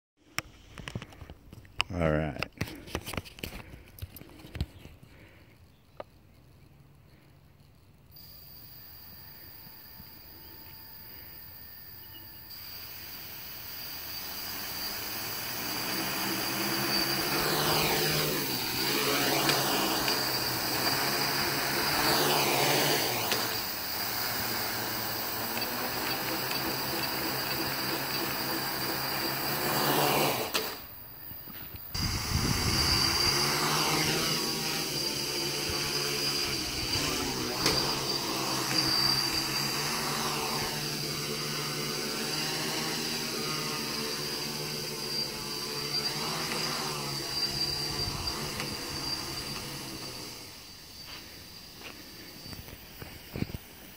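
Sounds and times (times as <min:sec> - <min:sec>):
quadcopter motors buzzing hum: 0:02.6 - 0:53.9.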